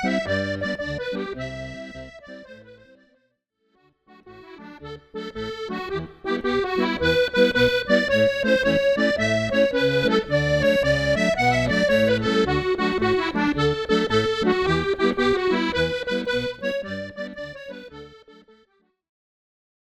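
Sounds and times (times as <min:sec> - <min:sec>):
accordion playing a jig: 0:00.0 - 0:03.2, 0:04.1 - 0:18.8.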